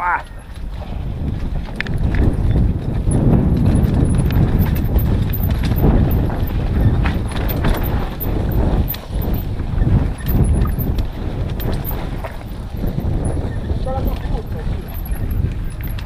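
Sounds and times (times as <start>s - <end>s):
bike knocking and rattling: 0.4s - 16.0s
tyres rumbling on dirt: 0.6s - 16.0s.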